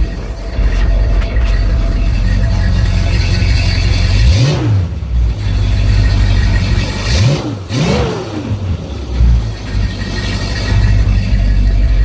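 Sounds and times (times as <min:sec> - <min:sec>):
pickup engine revving: 0:00.0 - 0:12.0.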